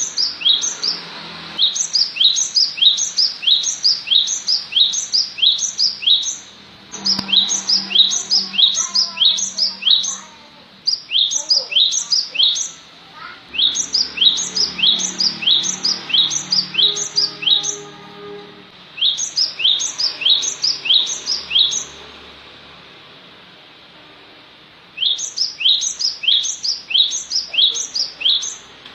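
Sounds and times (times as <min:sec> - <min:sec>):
bird song with falling notes: 0:00.0 - 0:12.8, 0:13.5 - 0:22.0, 0:25.0 - 0:28.7.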